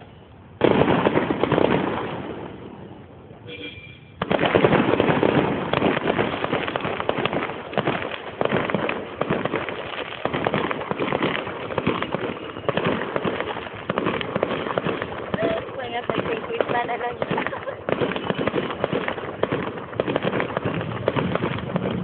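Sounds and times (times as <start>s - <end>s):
fireworks crackling and popping: 0.0s - 3.4s, 4.1s - 22.0s.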